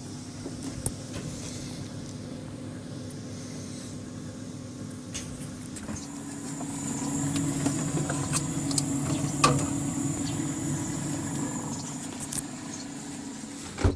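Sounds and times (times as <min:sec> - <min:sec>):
steady mechanical hum: 0:00.0 - 0:13.9.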